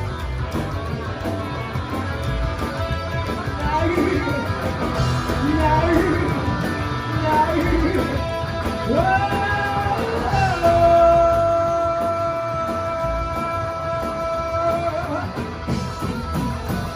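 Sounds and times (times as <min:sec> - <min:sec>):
electric guitar: 0:00.0 - 0:16.9
rock band playing: 0:00.0 - 0:16.9
person singing: 0:03.3 - 0:16.9.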